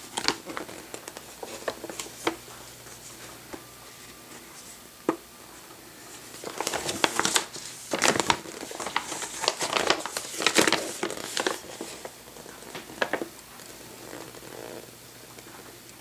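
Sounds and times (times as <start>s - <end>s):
glossy paper rustling and crinkling: 0.0s - 4.8s, 5.5s - 16.0s.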